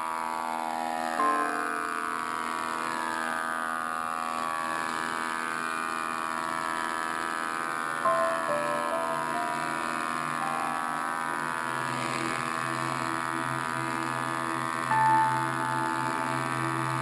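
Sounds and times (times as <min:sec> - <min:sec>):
planer machine whine and hum: 0:00.0 - 0:17.0.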